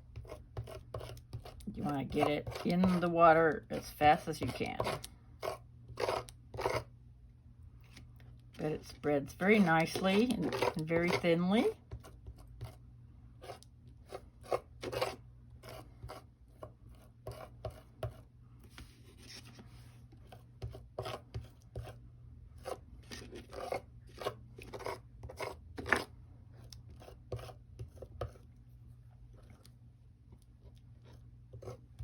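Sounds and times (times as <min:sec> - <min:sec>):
knife scraping paste on card: 0:00.0 - 0:06.9, 0:09.4 - 0:12.8, 0:13.4 - 0:19.6, 0:20.2 - 0:22.0, 0:22.6 - 0:28.5, 0:30.5 - 0:32.0.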